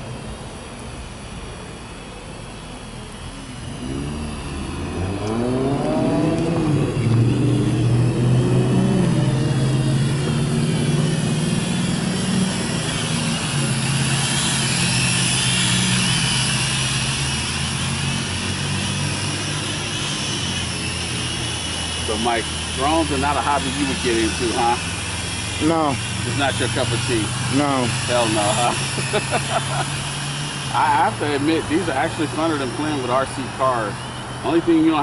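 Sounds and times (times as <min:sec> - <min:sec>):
high wavering whine: 0:00.0 - 0:35.0
vehicle engine revving: 0:00.0 - 0:35.0.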